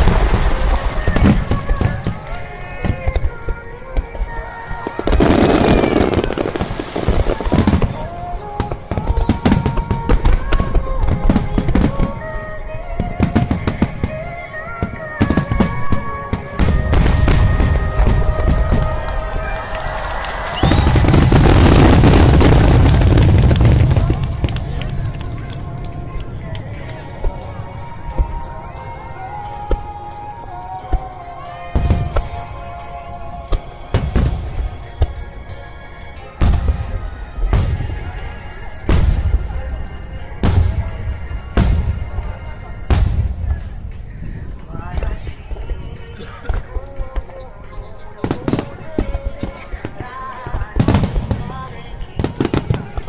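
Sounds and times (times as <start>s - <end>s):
fireworks booming and crackling: 0.0s - 30.0s, 30.9s - 32.8s, 33.5s - 35.2s, 36.4s - 47.4s, 48.2s - 53.0s
music playing: 0.0s - 53.0s.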